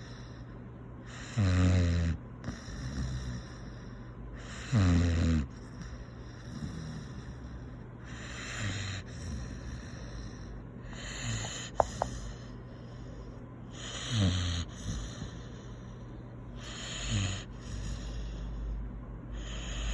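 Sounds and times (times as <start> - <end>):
dog snoring: 0.0 - 19.9.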